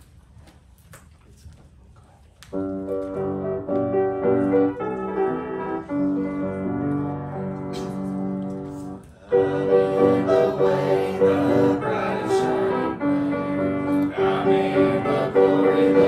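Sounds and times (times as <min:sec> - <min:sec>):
piano chords: 0:02.6 - 0:16.0.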